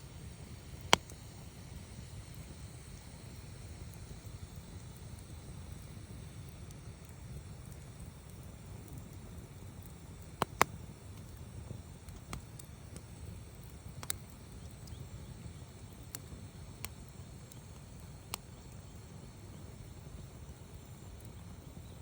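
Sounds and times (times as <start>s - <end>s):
burning wood crackling pops: 0.0s - 22.0s
campfire rumble: 0.0s - 22.0s.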